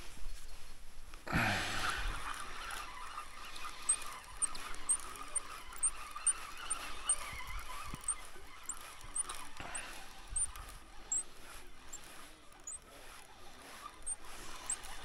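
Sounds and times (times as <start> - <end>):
faint outdoor background noise: 0.0 - 15.0
small bird chirping: 2.6 - 15.0.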